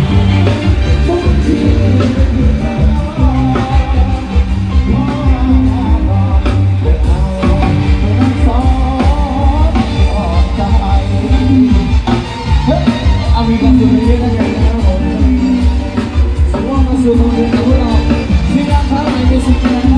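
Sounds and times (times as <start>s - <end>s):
band music over sound system: 0.0s - 19.9s
heavy bass beat: 0.0s - 19.9s.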